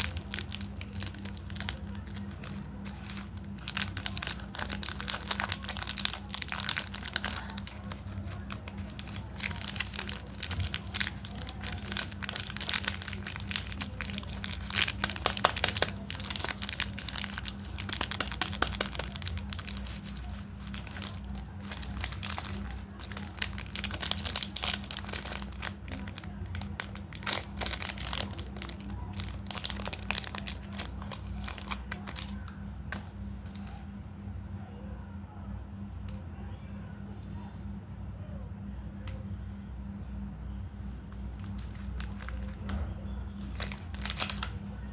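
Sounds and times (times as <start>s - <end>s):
candy wrappers crinkling: 0.0s - 34.0s, 41.1s - 44.9s
steady low hum: 0.0s - 44.9s.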